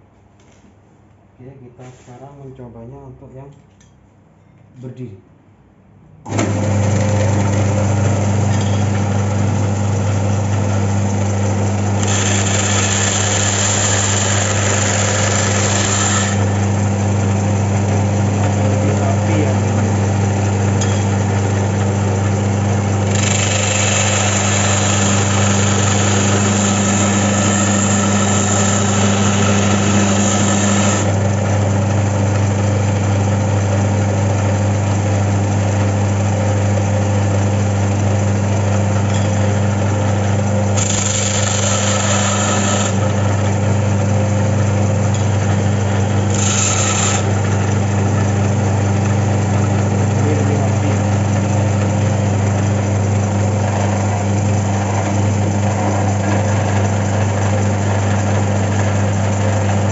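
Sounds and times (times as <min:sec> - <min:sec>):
belt sander motor hum: 0:06.3 - 0:59.9.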